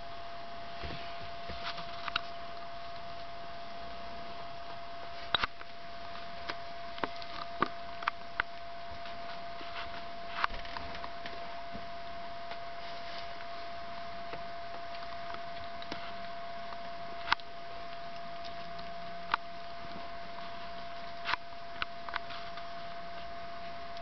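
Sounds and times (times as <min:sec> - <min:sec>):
steady high hum: 0:00.0 - 0:24.0.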